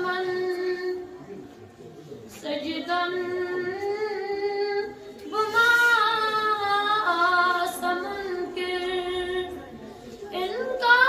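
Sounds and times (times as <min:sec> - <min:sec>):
boy singing unaccompanied: 0:00.0 - 0:01.2, 0:02.4 - 0:09.6, 0:10.3 - 0:11.0.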